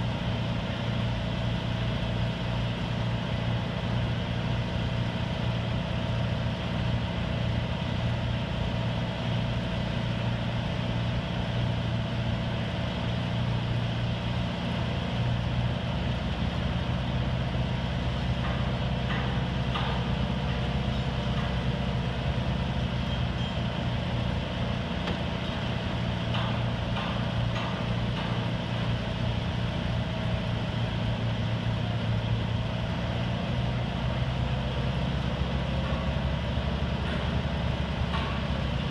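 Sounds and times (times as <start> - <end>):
crane diesel engine running: 0.0 - 38.9.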